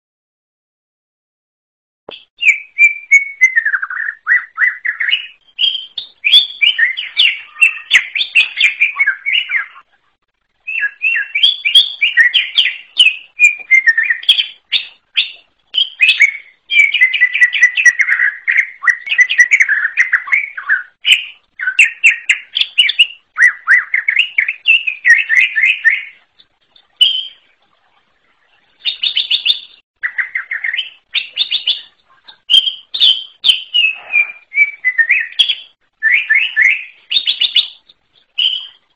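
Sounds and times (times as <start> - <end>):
bird chirping and warbling: 2.1 - 10.0, 10.6 - 38.9.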